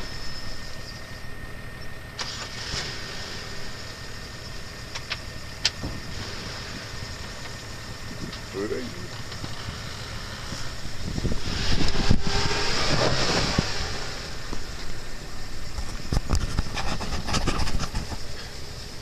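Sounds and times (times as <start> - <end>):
tyres working through mud: 0.0 - 19.0
vehicle engine running hard: 0.0 - 19.0.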